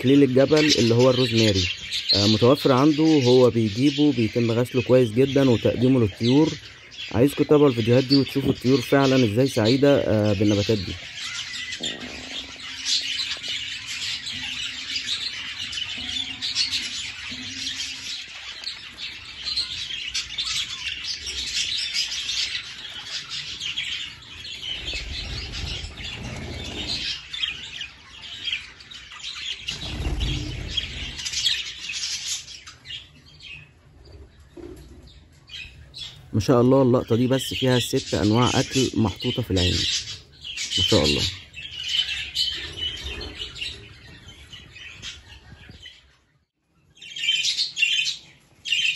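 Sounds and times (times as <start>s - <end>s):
budgerigars chattering: 0.0s - 33.7s, 34.6s - 46.1s.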